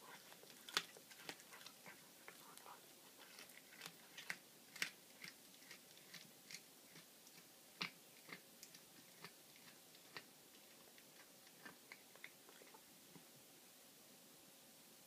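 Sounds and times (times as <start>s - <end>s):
cat chewing and crunching bones: 0.0s - 13.3s.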